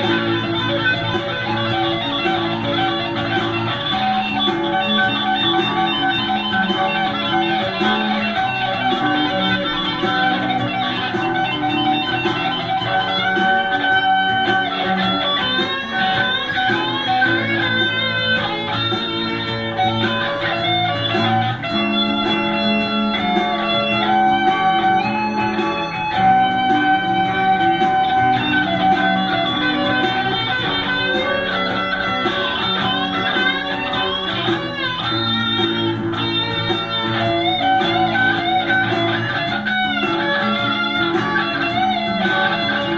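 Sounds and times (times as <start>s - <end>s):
electric guitar music: 0.0s - 42.9s.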